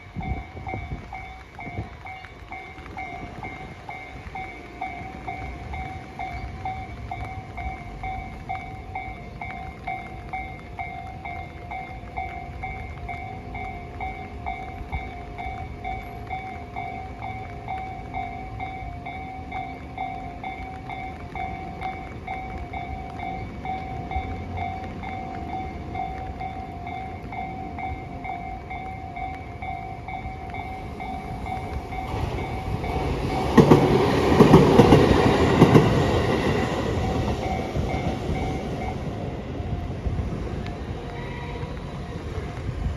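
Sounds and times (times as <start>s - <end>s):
level crossing warning bell: 0.0s - 42.9s
train wheels clattering: 0.0s - 42.9s.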